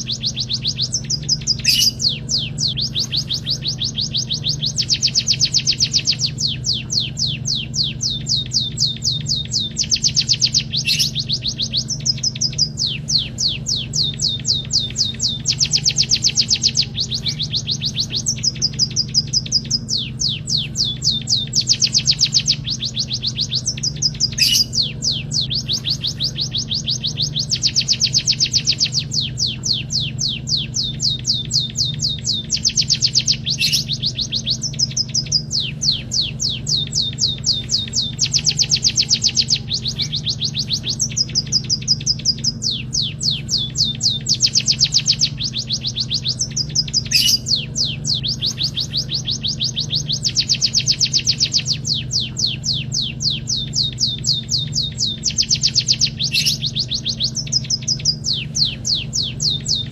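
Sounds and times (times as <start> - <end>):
bird singing high trills: 0.0 - 59.9.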